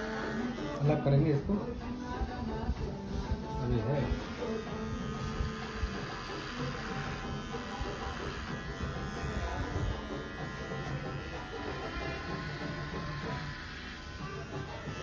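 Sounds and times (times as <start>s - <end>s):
electric hair clipper buzzing: 0.0s - 1.0s, 3.9s - 15.0s
background music: 0.0s - 15.0s.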